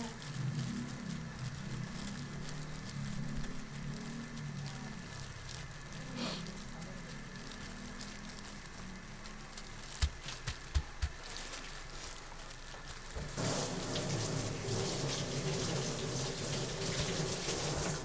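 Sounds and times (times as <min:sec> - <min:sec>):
gloved hands rustling rice: 0:00.0 - 0:18.0
low background hum: 0:00.0 - 0:18.0.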